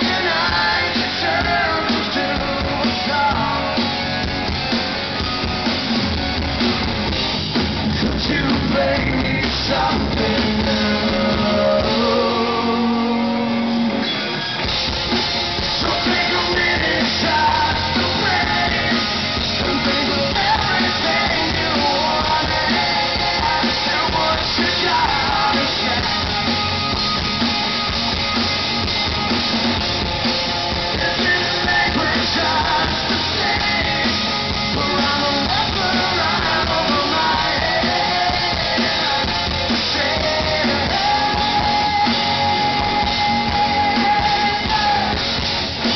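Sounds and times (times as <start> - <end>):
lead vocal singing: 0.0 - 4.5, 8.0 - 14.6, 15.6 - 27.2, 30.7 - 45.9
live rock band playing: 0.0 - 45.9.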